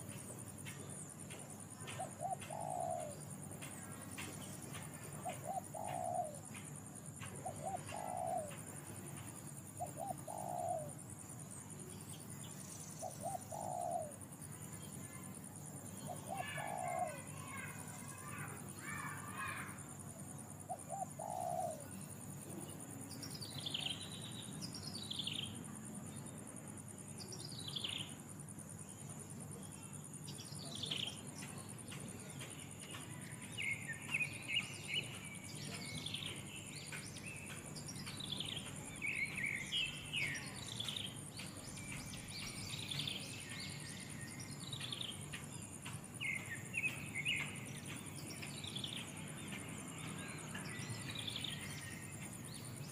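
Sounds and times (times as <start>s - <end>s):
birds chirping: 0.0s - 19.8s, 29.8s - 52.9s
high insect drone: 0.0s - 52.9s.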